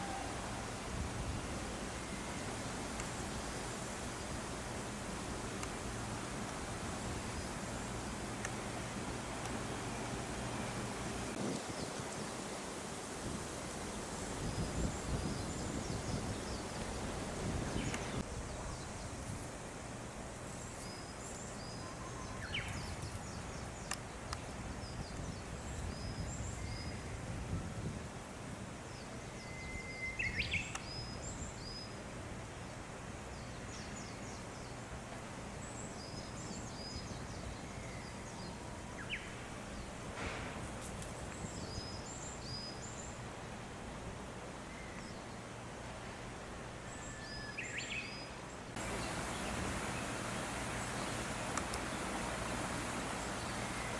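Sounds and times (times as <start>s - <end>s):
wind rustling through treetops: 0.0s - 53.9s.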